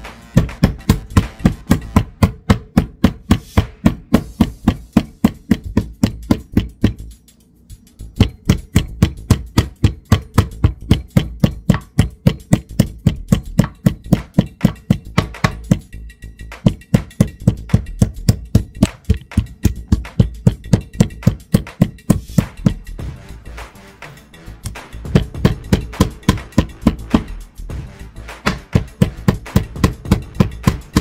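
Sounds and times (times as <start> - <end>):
mallet pounding meat: 0.0 - 7.1, 8.2 - 23.2, 24.6 - 31.0
music: 0.0 - 31.0.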